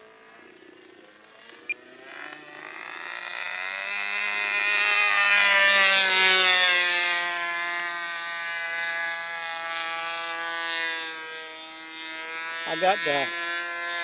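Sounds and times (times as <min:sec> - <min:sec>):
model airplane engine buzzing: 0:00.0 - 0:14.0.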